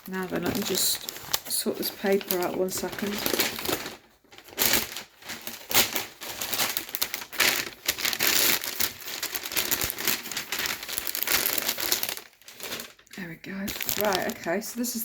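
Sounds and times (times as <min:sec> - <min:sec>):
packing paper crumpling: 0:00.0 - 0:15.0.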